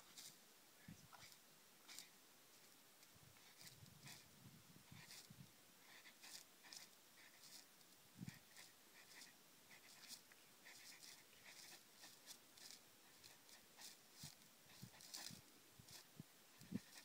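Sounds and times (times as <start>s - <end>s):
dog sniffing: 1.2s - 2.1s, 3.4s - 4.3s, 4.9s - 17.0s.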